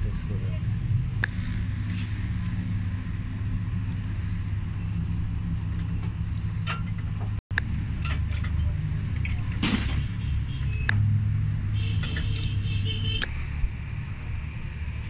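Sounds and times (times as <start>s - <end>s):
engine running low drone: 0.0s - 11.8s, 12.4s - 15.0s.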